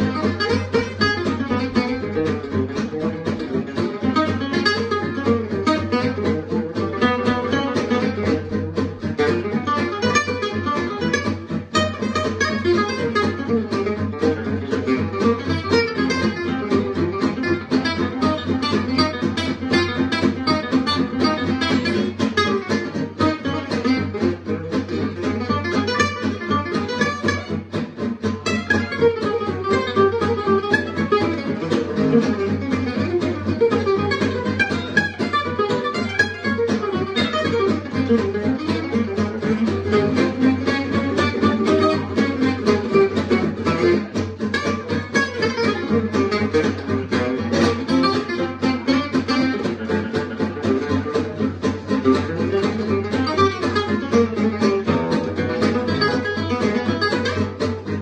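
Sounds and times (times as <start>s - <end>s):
acoustic guitars playing jazz: 0.0s - 58.0s.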